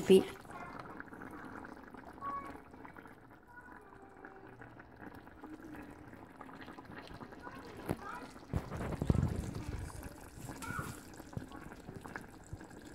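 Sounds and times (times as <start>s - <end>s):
curry bubbling in a pot: 0.0s - 12.9s.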